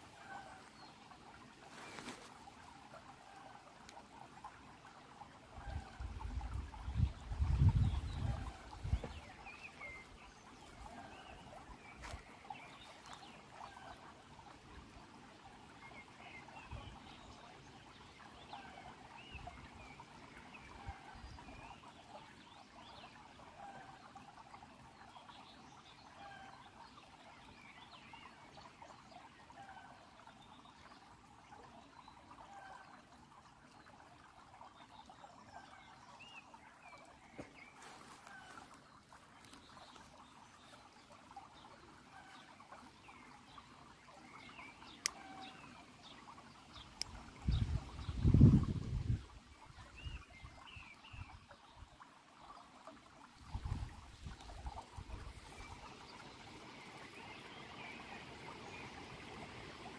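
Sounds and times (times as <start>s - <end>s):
stream trickling over pebbles: 0.0s - 59.9s.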